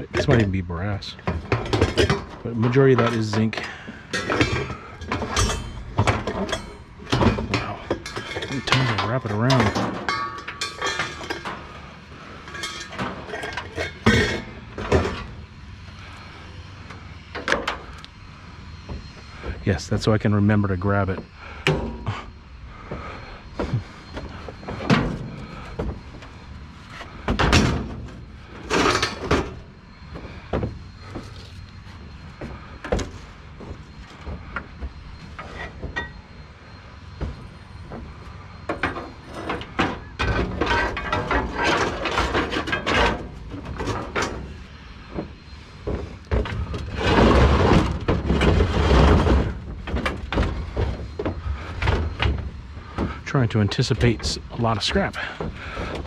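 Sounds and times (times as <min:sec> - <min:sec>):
scrap metal knocks and clanks: 0:00.0 - 0:56.0
scrap metal rattling and scraping: 0:00.0 - 0:56.0.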